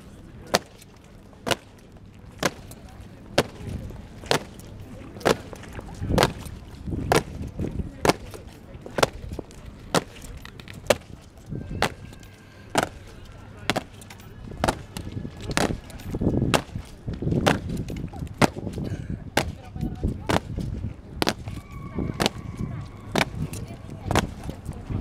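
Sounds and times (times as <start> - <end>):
marching footsteps on wet stone: 0.5 - 25.0.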